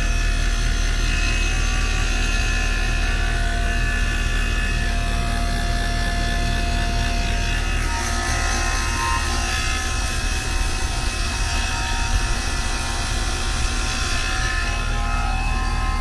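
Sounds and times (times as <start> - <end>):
vacuum pump humming: 0.0 - 16.0.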